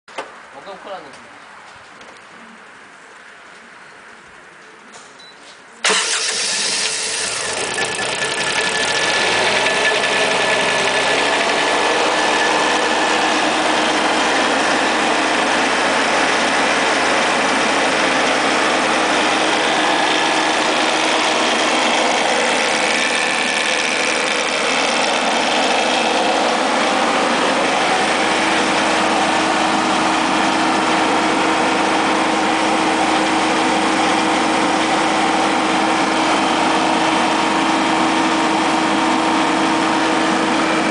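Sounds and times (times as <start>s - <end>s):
generator engine running: 5.8s - 40.9s.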